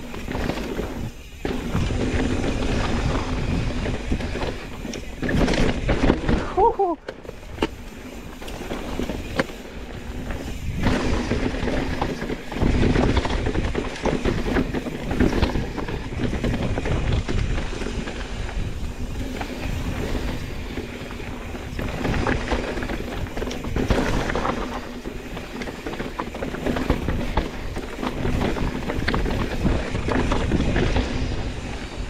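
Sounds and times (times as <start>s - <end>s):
bike clattering and rattling: 0.0s - 32.0s
bike tyres rumbling over rock: 0.0s - 32.0s.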